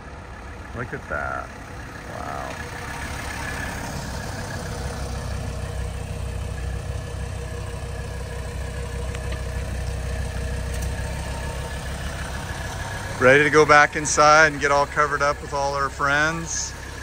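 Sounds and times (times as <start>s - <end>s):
diesel car engine rumbling: 0.0s - 17.0s.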